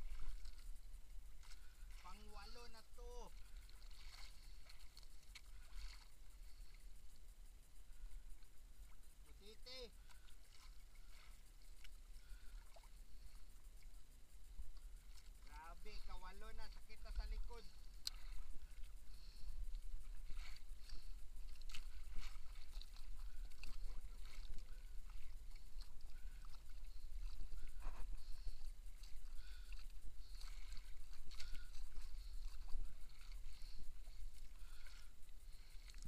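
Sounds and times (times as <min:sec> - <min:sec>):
small splashes: 0:00.0 - 0:06.8, 0:09.7 - 0:13.9, 0:14.7 - 0:36.0
low steady rumble: 0:00.0 - 0:36.0
water lapping against boat hull: 0:00.0 - 0:36.0.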